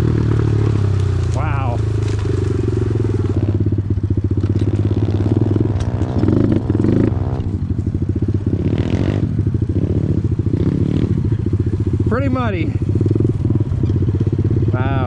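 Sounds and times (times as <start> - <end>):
off-road motorcycle engine revving: 0.0 - 15.0.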